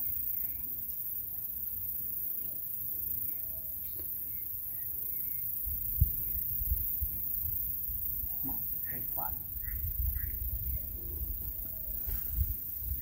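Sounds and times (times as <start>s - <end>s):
faint bird chirps: 0.1s - 6.1s, 6.7s - 13.0s.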